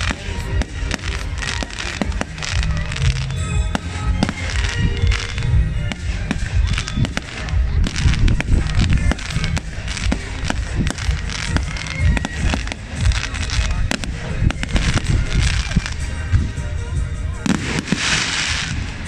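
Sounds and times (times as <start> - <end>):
low rumble: 0.0 - 17.8
fireworks bangs and crackles: 0.0 - 19.0.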